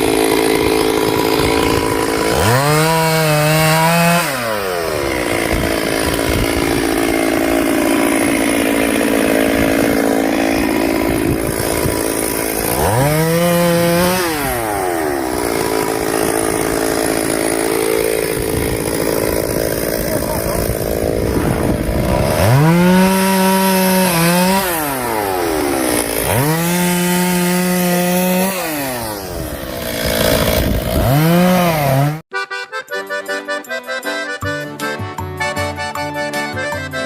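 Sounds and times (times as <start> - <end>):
chainsaw engine revving: 0.0 - 32.3.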